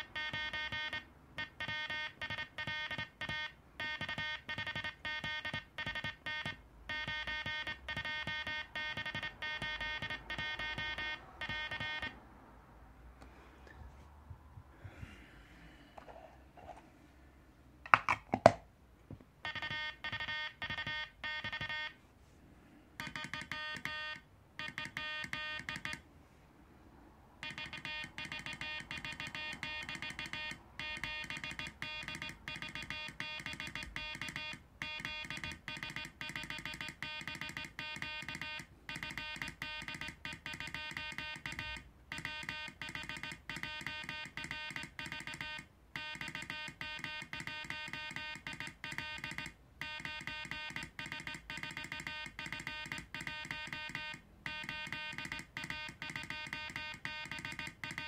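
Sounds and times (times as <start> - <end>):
morse code sidetone: 0.0 - 12.2, 19.5 - 22.0, 23.0 - 26.0, 27.4 - 58.0.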